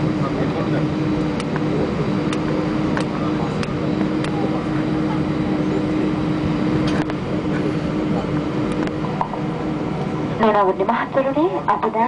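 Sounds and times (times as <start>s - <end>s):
airplane engines idling hum: 0.0s - 12.0s.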